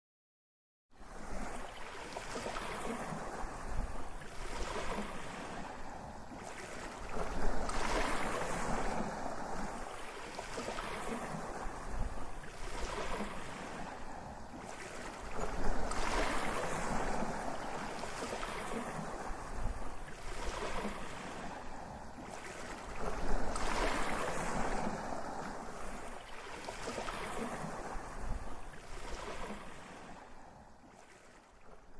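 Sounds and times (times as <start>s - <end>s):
sea waves breaking on shore: 1.0s - 31.9s.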